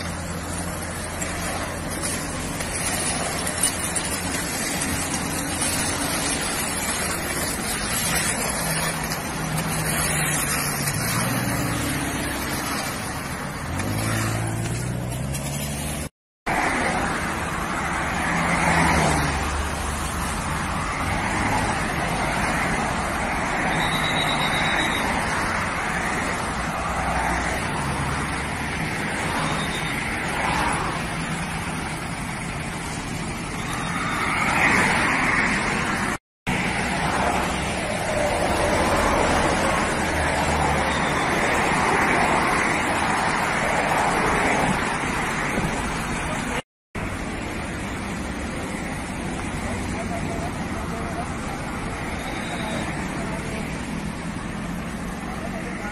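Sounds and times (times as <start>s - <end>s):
cars passing on wet road: 0.0s - 55.9s.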